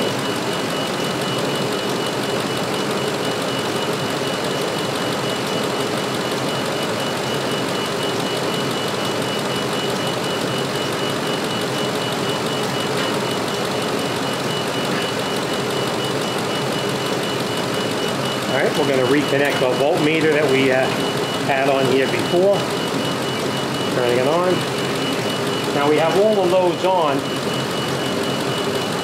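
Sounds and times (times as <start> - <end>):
truck engine idling: 1.5 - 29.0.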